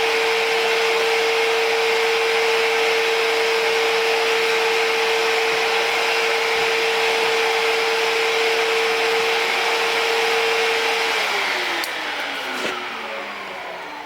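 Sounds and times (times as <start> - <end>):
power sander whining: 0.0 - 14.0.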